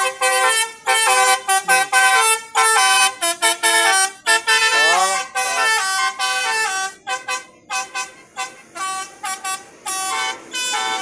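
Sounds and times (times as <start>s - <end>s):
musical air horn playing a tune: 0.0s - 11.0s.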